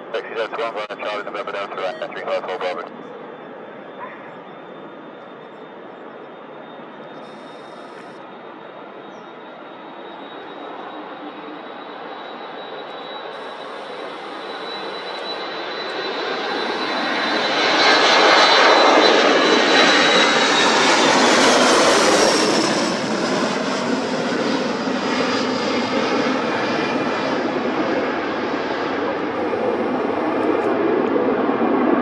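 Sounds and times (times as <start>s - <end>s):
high engine whine: 0.0s - 32.0s
jet engines roaring at takeoff: 0.0s - 32.0s.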